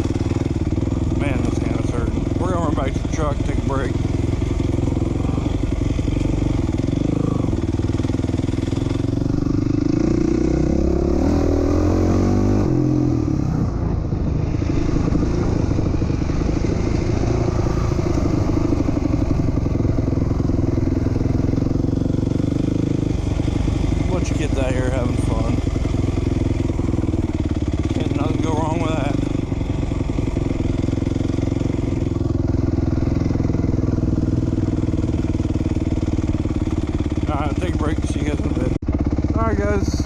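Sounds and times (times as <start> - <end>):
dirt bike engine idling: 0.0 - 40.0.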